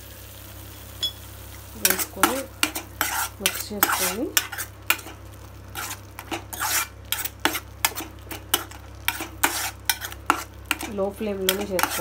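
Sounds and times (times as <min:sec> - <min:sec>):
spoon scraping a frying pan: 0:01.8 - 0:12.0.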